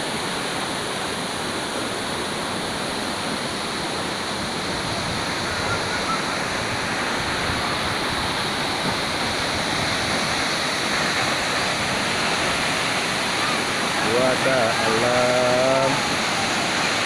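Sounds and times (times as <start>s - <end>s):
waterfall crashing: 0.0s - 17.0s.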